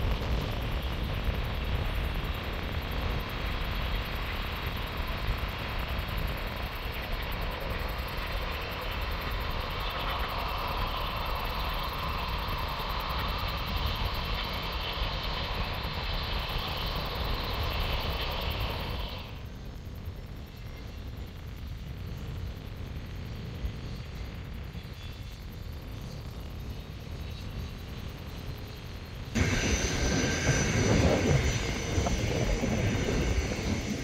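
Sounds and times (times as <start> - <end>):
jet engine rumble and whine: 0.0 - 34.0.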